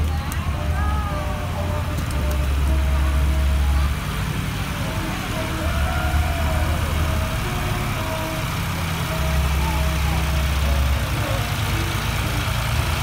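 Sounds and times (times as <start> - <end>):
people talking: 0.0 - 13.0
tractor engine running: 0.0 - 13.0.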